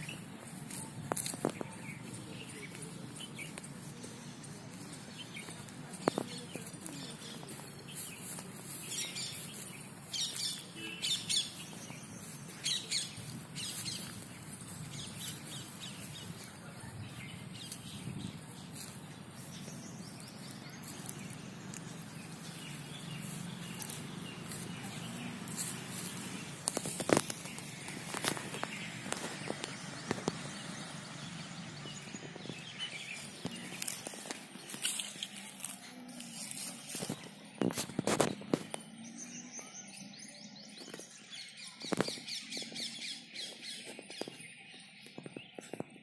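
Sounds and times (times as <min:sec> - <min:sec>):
birds chirping: 0:00.0 - 0:46.0
outdoor background noise: 0:00.0 - 0:46.0.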